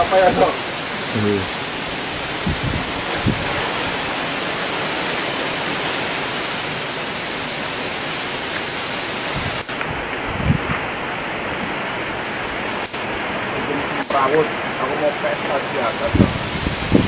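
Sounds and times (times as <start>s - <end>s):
heavy rain in strong wind: 0.0s - 17.0s.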